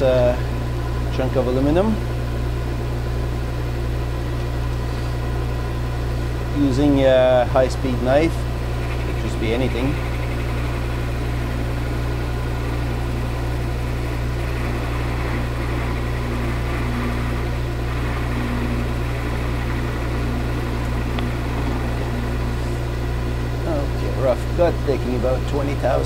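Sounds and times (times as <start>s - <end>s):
metal lathe humming: 0.0s - 26.0s.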